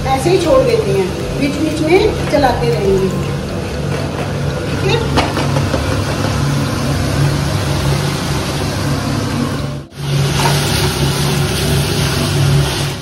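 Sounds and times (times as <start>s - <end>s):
vegetables sizzling in oil: 0.0s - 4.0s, 4.8s - 13.0s.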